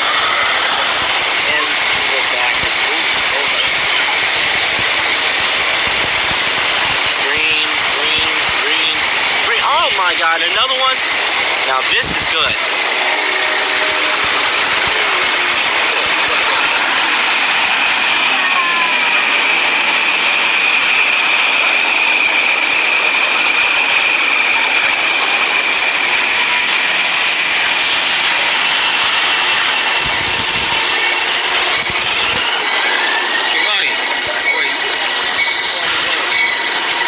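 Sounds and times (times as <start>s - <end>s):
high steady whine: 0.0s - 37.0s
train wheels on rails: 0.0s - 37.0s.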